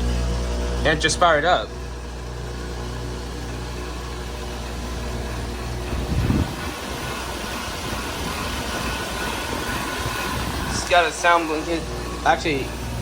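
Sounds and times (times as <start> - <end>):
heat pump compressor and fan hum: 0.0 - 13.0.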